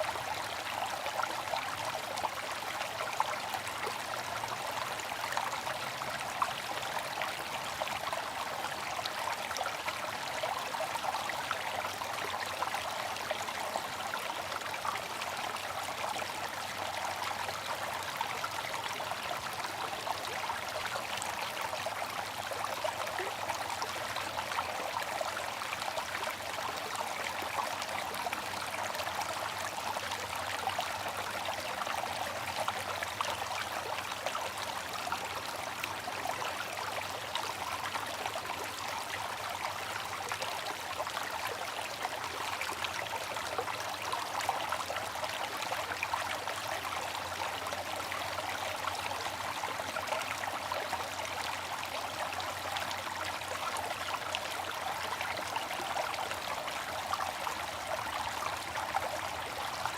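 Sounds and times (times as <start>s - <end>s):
water trickling and splashing: 0.1s - 59.9s.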